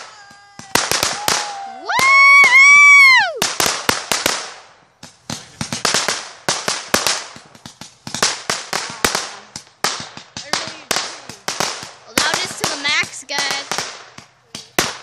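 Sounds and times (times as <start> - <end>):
firecracker cracks and pops: 0.0 - 15.0.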